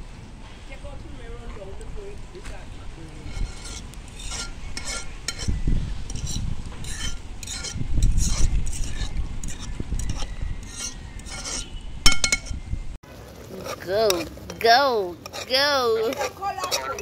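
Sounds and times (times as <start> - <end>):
stirring and scraping in metal pot: 3.1 - 17.0.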